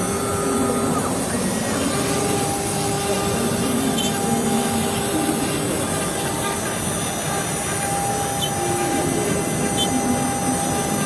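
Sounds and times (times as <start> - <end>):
cutter cutting sheet: 0.0 - 11.0
router spindle high whine: 0.0 - 11.0.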